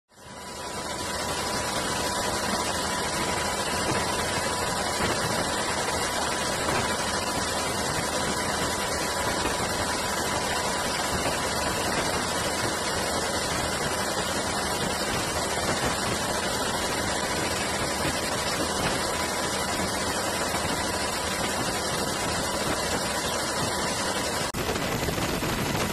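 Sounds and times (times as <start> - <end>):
aircraft engine roar in flight: 0.1 - 25.9
constant high whine: 0.1 - 25.9.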